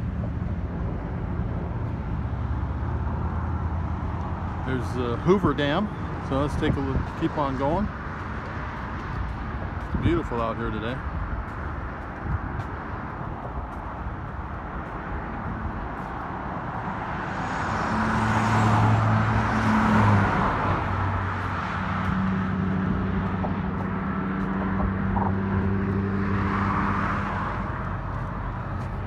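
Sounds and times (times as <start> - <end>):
cars passing with tyre noise: 0.0 - 29.0
low engine hum: 0.0 - 29.0.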